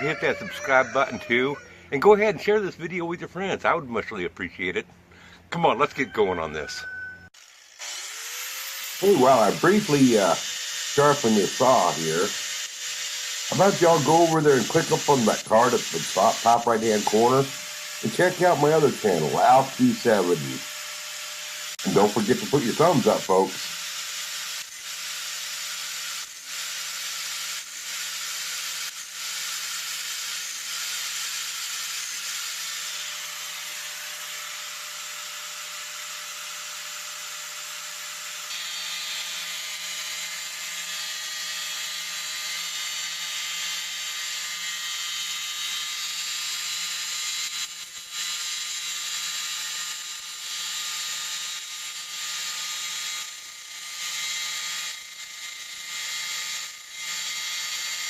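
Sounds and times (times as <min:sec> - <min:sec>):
band blade sharpener grinding: 0:06.8 - 0:58.0.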